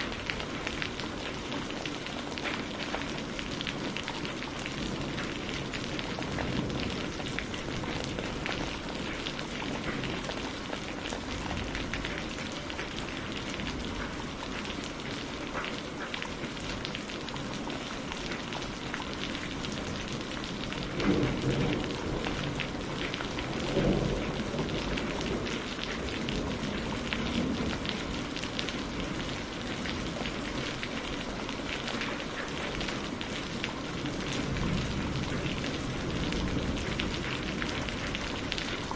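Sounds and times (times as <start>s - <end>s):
low rumble of thunder: 0.0s - 14.6s, 18.5s - 38.9s
heavy rain pattering: 0.0s - 38.9s.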